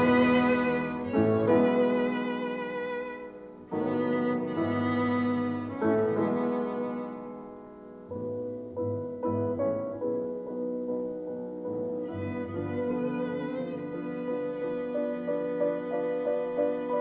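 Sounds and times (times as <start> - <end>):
piano notes: 0.0 - 17.0.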